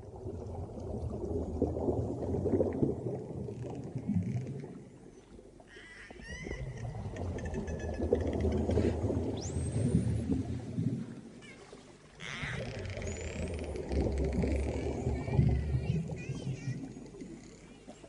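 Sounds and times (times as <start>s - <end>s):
churning gurgling water: 0.0s - 18.0s
deep underwater rumble: 0.0s - 18.0s.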